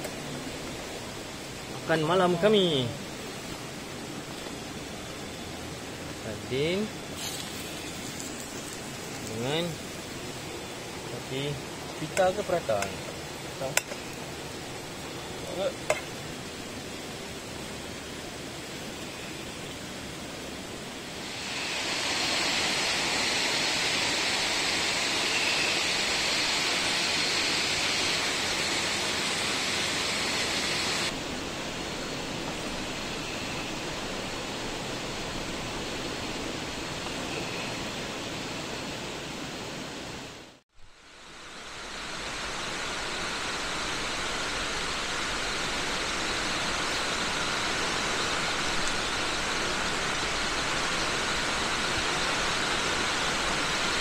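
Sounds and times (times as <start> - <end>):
night ambience hiss: 0.0 - 54.0.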